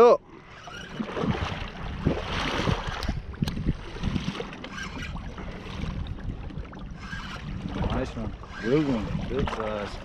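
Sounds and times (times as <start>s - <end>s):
waves slapping boat hull: 0.4s - 10.0s
wind buffeting microphone: 0.5s - 10.0s.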